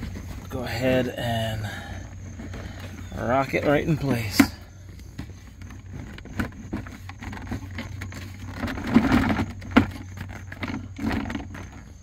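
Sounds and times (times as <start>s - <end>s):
plastic console knocking and scraping: 0.0s - 12.0s.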